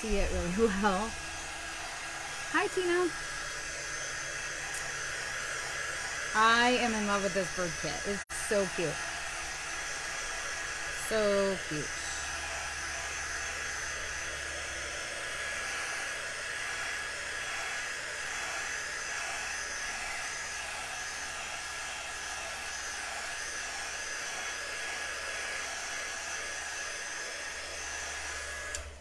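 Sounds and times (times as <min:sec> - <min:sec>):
heat tool blowing with high whine: 0:00.0 - 0:29.0.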